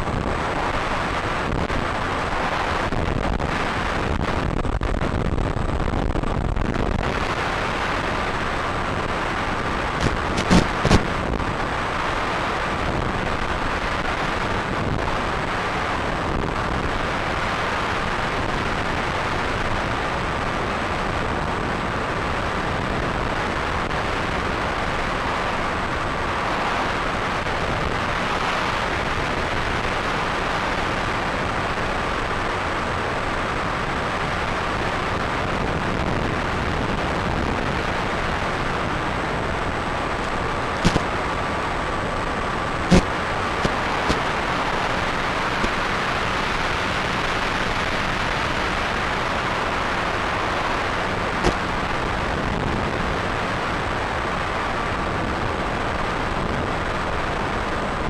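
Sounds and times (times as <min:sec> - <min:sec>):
faint high whine: 0:00.0 - 0:56.0
steady rushing noise: 0:00.0 - 0:58.0.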